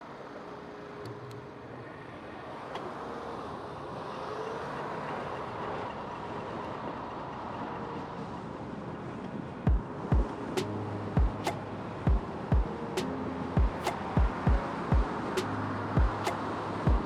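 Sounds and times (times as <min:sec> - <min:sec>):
road and wind noise: 0:00.1 - 0:17.0.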